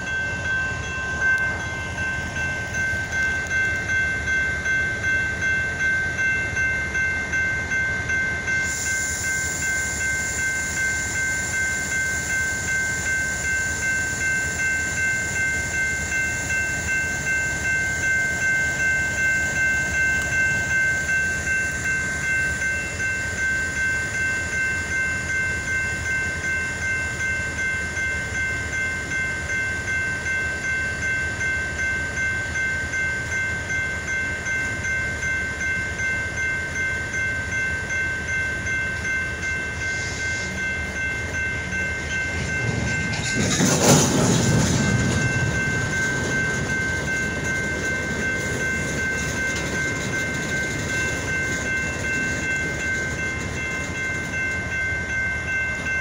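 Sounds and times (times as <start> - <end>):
repeating ringing: 0.0 - 56.0
train wheels rumbling on rails: 0.0 - 56.0.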